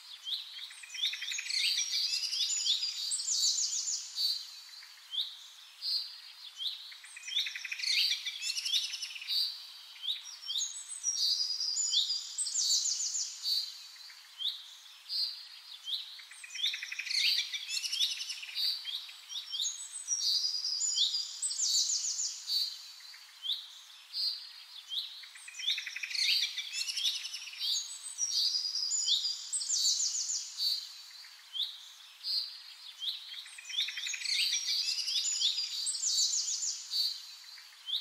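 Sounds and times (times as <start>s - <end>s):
birds chirping and trilling: 0.2s - 38.0s.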